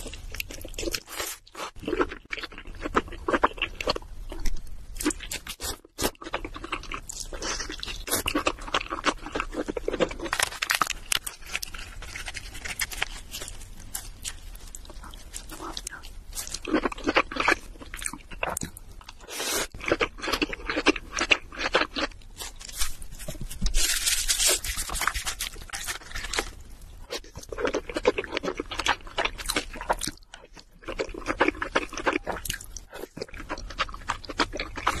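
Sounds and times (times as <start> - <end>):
wet chewing: 0.0 - 22.4, 24.5 - 35.0.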